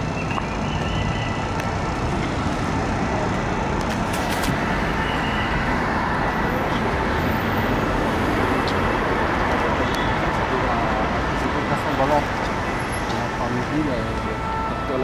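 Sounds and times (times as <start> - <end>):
city road traffic hum: 0.0 - 15.0.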